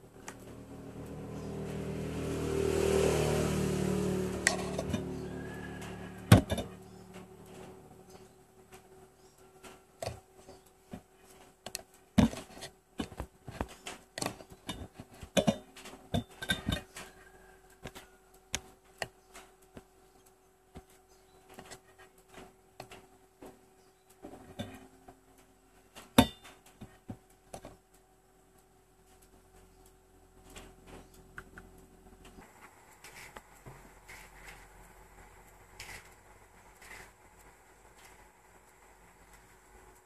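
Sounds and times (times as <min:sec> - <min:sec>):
faint steady hum: 0:03.8 - 0:40.0.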